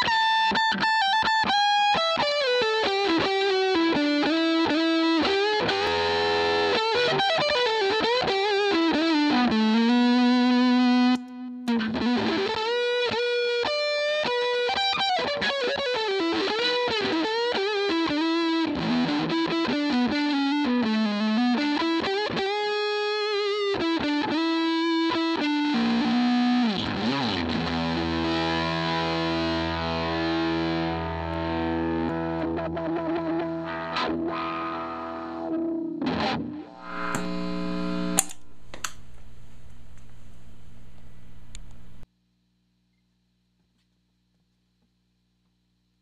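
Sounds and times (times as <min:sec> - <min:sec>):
distorted electric guitar lead: 0:00.0 - 0:42.0.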